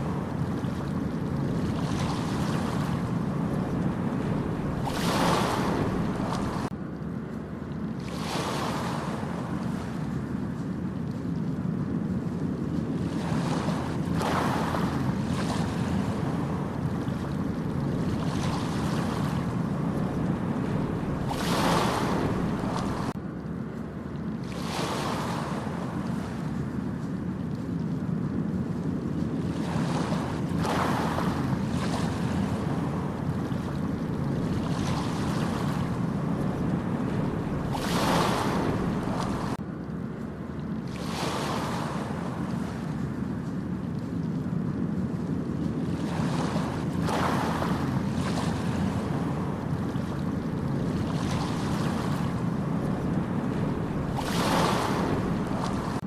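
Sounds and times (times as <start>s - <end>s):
ocean waves breaking: 0.0s - 6.8s, 7.5s - 56.0s
wind buffeting microphone: 0.0s - 56.0s.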